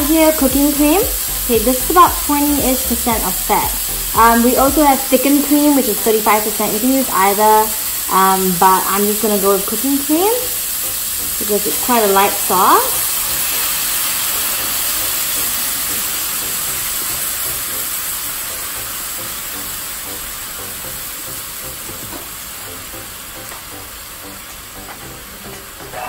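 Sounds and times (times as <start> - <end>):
cream sizzling in hot pan: 0.0 - 26.0.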